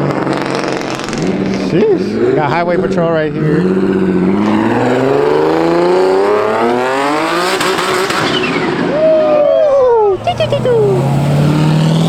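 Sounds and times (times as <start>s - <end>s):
car engine accelerating: 0.0s - 12.0s
passing vehicle high tone: 0.3s - 12.0s.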